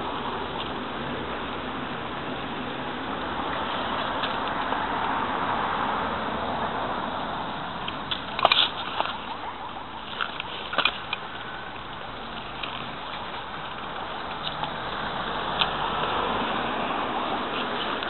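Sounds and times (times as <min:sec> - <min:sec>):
car passing on road: 0:00.0 - 0:18.0.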